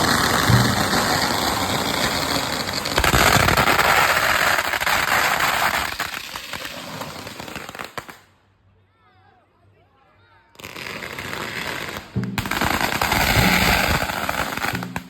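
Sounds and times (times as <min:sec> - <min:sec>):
fireworks crackling pops: 0:00.0 - 0:08.4, 0:10.6 - 0:15.0.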